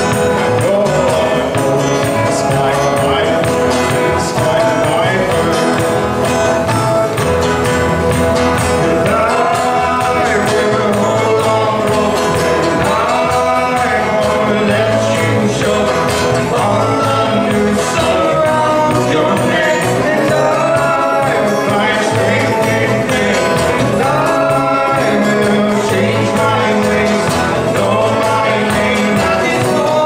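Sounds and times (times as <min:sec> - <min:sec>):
acoustic guitars: 0:00.0 - 0:30.0
keyboard: 0:00.0 - 0:30.0
people singing: 0:00.0 - 0:30.0.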